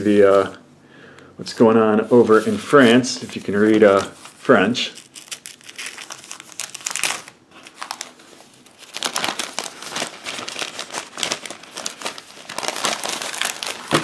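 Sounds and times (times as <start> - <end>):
newspaper rustling and crinkling: 2.0 - 14.0.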